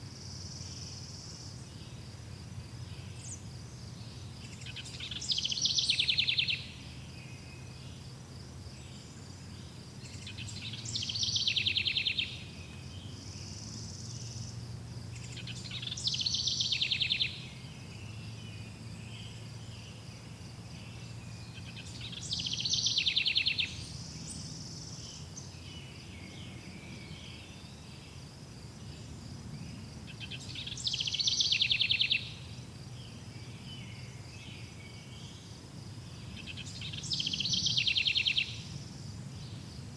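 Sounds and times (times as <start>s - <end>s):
songbird song with trill: 0.0s - 39.9s
insects chirring: 0.2s - 39.9s.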